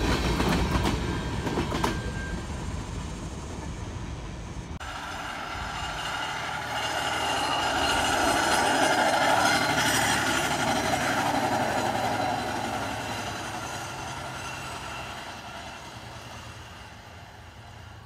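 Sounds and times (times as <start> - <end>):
freight cars rolling on rails: 0.0 - 18.0.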